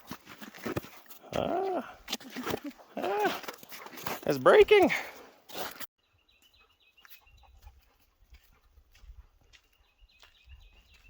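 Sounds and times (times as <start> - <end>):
footsteps on muddy icy ground: 0.0 - 11.0.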